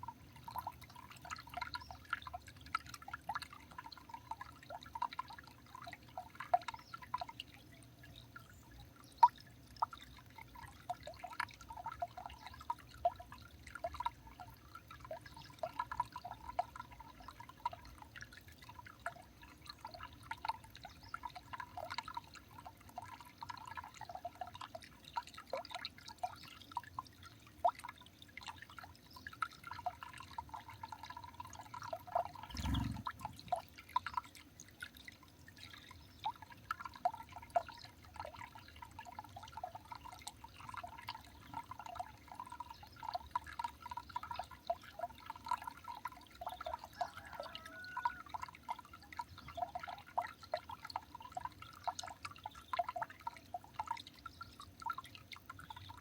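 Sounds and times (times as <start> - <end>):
water dripping: 0.0 - 56.0.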